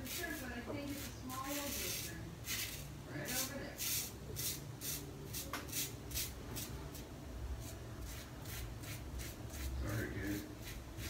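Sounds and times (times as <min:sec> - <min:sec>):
razor scraping stubble: 0:00.0 - 0:11.0.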